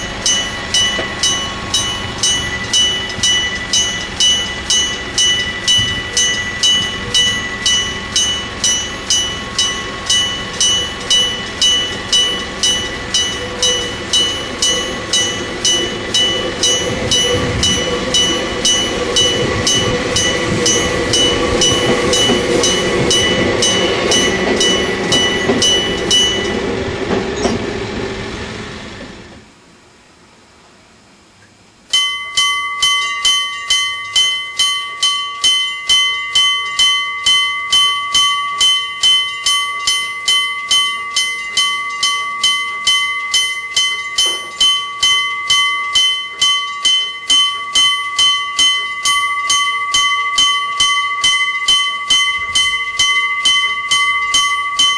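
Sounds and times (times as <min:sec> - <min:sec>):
electric crossing bell ringing: 0:00.0 - 0:27.6, 0:31.9 - 0:54.9
passing train rumble: 0:00.0 - 0:31.2, 0:31.8 - 0:54.9.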